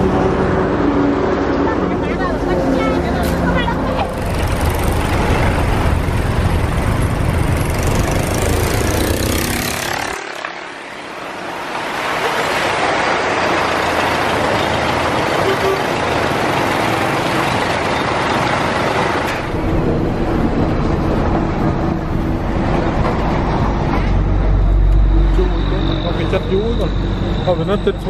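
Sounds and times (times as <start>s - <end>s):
steady traffic rushing noise: 0.0s - 28.0s
truck bus and motorbike engines: 0.0s - 28.0s.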